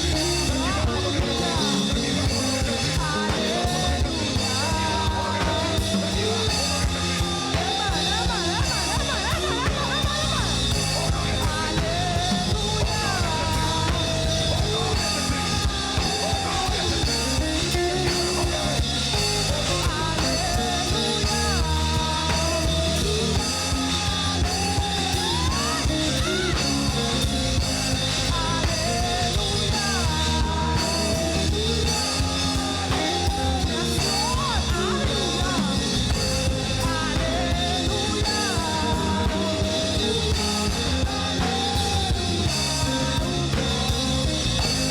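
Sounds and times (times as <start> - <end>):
drum kit: 0.0 - 44.9
person singing melody: 0.0 - 44.9
steady bass: 0.0 - 44.9
worship band playing: 0.0 - 44.9.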